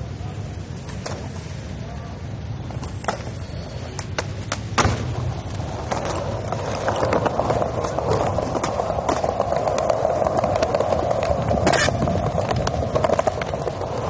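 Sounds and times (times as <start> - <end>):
skateboard wheels rolling on stone: 0.0 - 14.0
skateboard clacks: 2.7 - 14.0.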